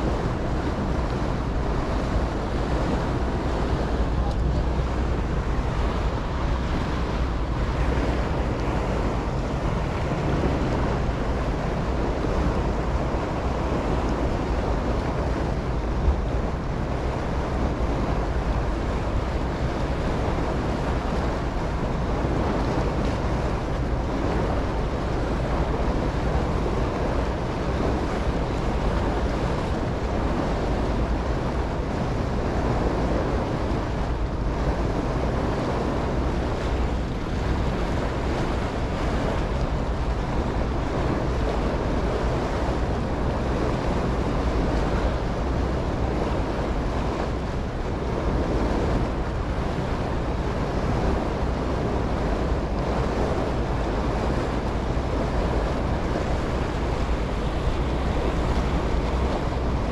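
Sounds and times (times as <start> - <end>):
low engine hum: 0.0 - 59.9
water rushing along hull: 0.0 - 59.9
wind on microphone: 0.0 - 59.9.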